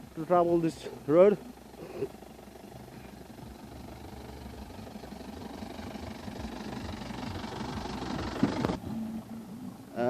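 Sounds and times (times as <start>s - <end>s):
car engine running: 0.0s - 10.0s
road noise: 0.0s - 10.0s.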